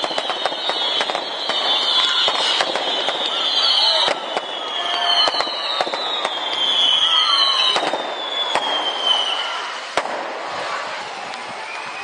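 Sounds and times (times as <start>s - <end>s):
firework whistles falling in pitch: 0.0s - 10.1s, 11.1s - 12.0s
firework bangs: 0.0s - 12.0s.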